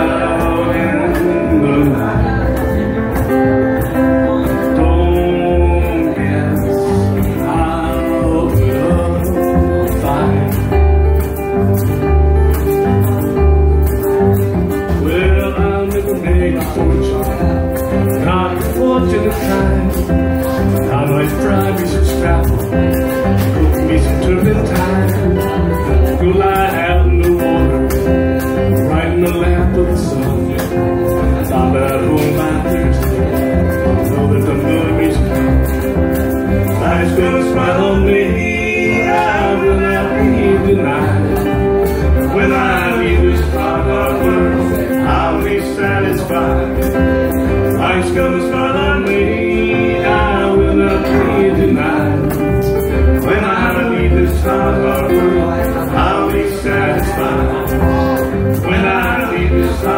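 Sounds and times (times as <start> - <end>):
man singing: 0.0 - 59.9
strummed acoustic guitar: 0.0 - 59.9
upright bass: 0.0 - 59.9.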